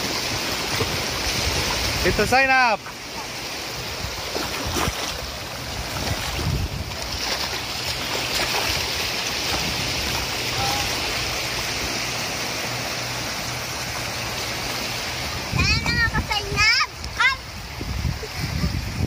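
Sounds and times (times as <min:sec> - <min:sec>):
small waves breaking on beach: 0:00.0 - 0:18.6
water swishing around wading legs: 0:00.0 - 0:19.0.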